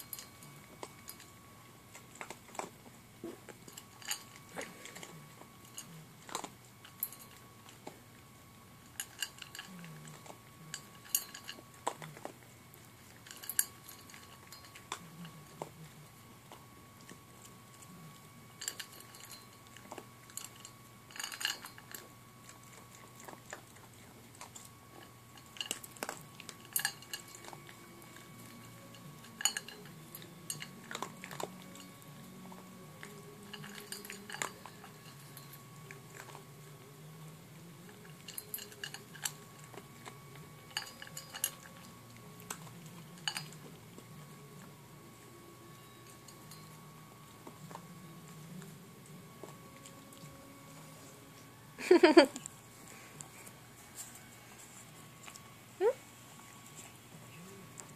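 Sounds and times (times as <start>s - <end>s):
puppy crunching dry kibble: 0.0s - 57.9s.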